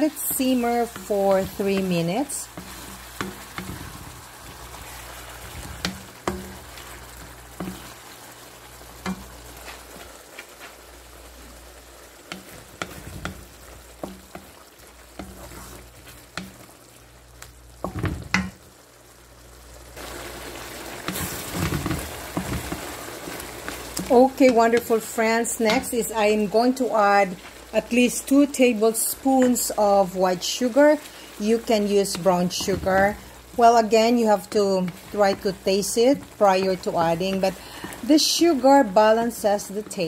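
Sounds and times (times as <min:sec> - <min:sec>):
wooden spatula scraping a pan: 0:00.0 - 0:10.9, 0:12.2 - 0:16.8, 0:21.0 - 0:28.4, 0:30.6 - 0:40.0
sauce sizzling in a frying pan: 0:00.0 - 0:40.0.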